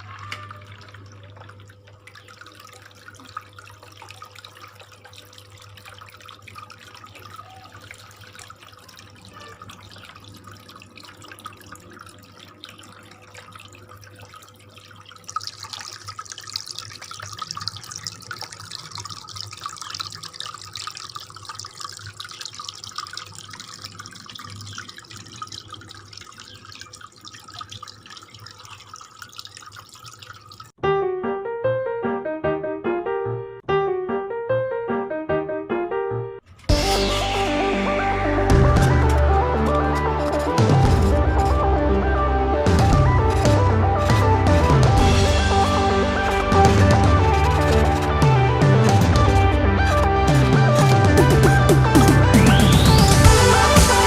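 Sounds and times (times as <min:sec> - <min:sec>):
water pump humming: 0:00.0 - 0:30.8, 0:36.4 - 0:54.0
water trickling and splashing: 0:00.0 - 0:30.8, 0:36.4 - 0:54.0.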